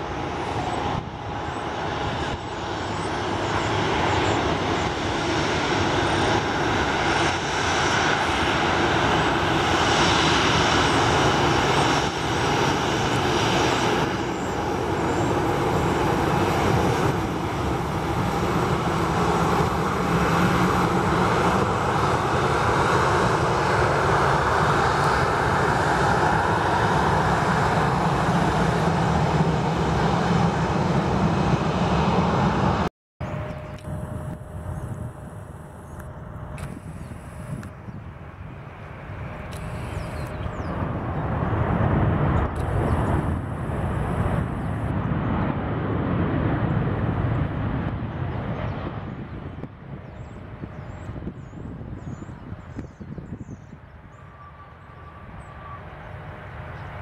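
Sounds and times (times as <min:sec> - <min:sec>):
jet engines at taxi power: 0:00.0 - 0:57.0.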